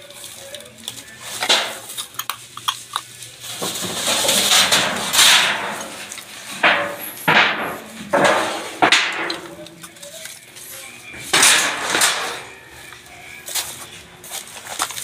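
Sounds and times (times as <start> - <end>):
plastic rubbish rustling and crunching: 0.0 - 15.0.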